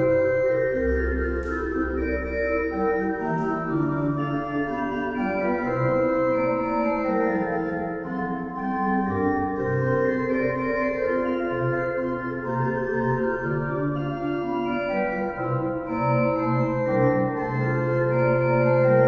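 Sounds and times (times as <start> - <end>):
deep organ pedal notes: 0.0 - 19.0
pipe organ playing chords: 0.0 - 19.0.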